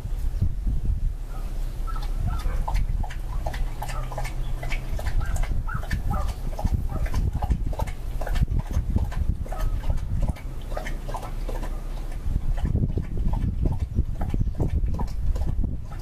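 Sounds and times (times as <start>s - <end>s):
low rumble: 0.0s - 16.0s
birds chirping: 1.2s - 16.0s.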